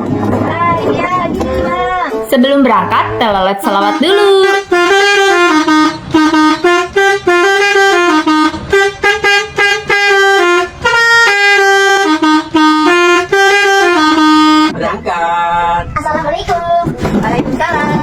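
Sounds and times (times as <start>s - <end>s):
multi-tone bus horn melody: 0.0s - 14.8s.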